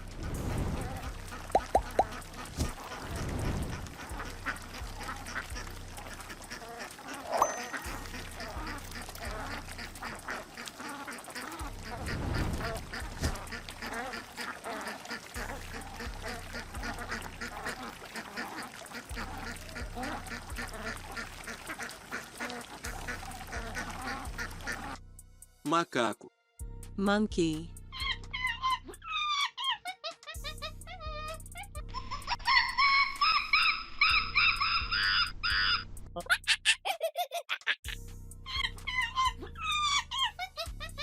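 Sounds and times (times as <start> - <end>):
ducks quacking: 0.0 - 25.0, 28.0 - 41.0.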